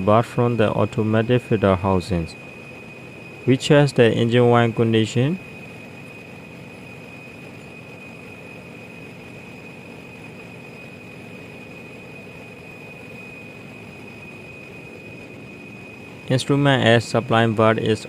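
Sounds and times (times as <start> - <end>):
generator engine machinery drone: 0.0 - 18.0
high-pitched whine: 0.0 - 18.0.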